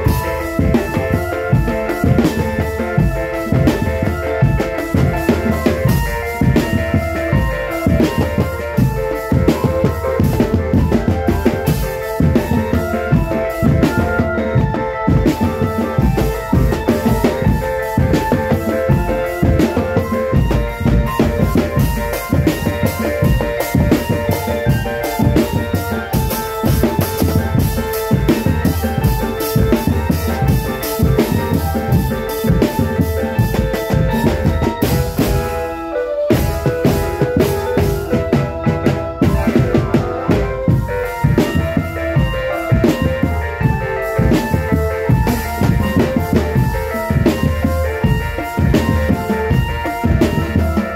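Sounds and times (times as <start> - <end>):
marching drum band playing: 0.0 - 50.9.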